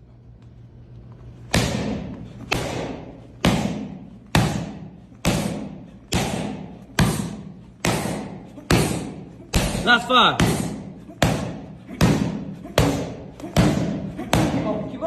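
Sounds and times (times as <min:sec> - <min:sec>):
boxing punches landing: 0:01.4 - 0:15.0.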